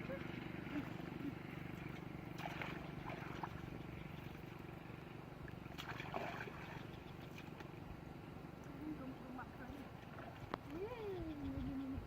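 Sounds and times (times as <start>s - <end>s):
faint low motor hum: 0.0s - 12.0s.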